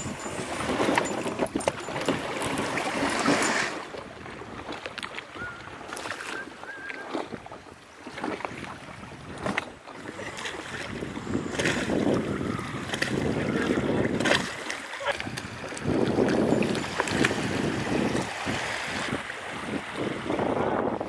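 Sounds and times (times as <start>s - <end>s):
wind gusting on microphone: 0.0s - 4.8s, 8.3s - 21.0s
small waves splashing: 0.0s - 21.0s.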